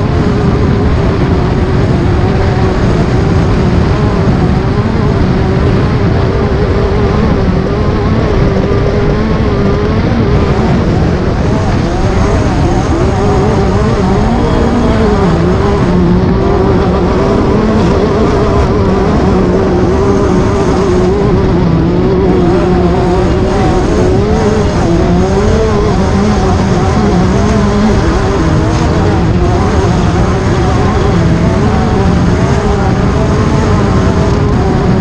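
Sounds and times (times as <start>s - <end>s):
race car engine running hard: 0.0s - 35.0s
steady rushing noise: 0.0s - 35.0s.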